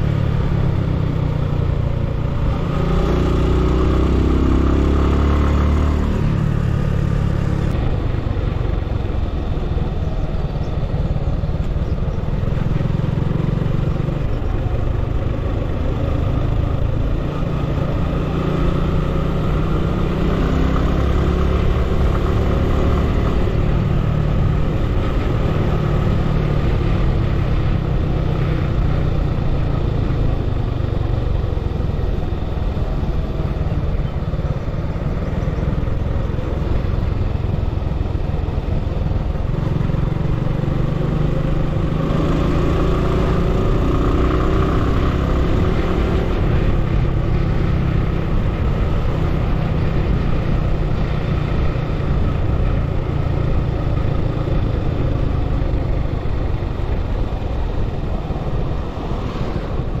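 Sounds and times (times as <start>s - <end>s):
vehicle engine and road rumble: 0.0s - 60.0s.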